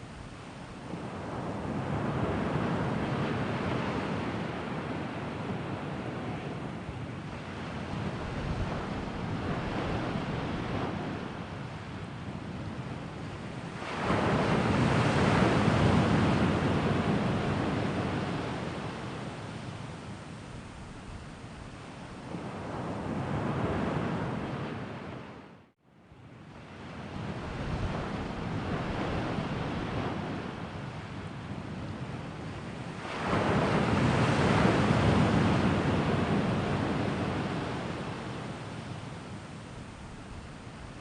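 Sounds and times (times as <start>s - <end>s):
ocean waves surging on shore: 0.0s - 25.4s, 26.6s - 41.0s.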